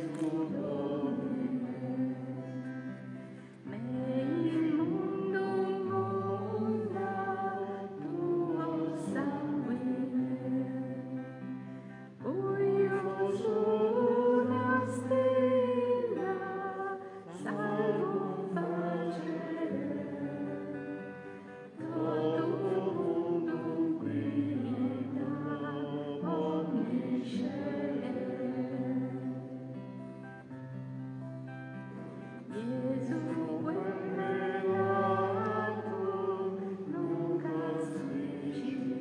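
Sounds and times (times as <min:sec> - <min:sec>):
choir singing a hymn: 0:00.0 - 0:30.3, 0:32.1 - 0:39.0.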